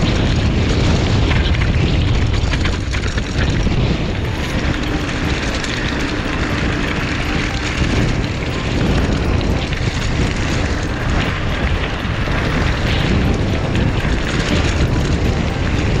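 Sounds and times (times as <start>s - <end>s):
bike tyres rumbling on track: 0.0s - 16.0s
wind buffeting microphone: 0.0s - 16.0s.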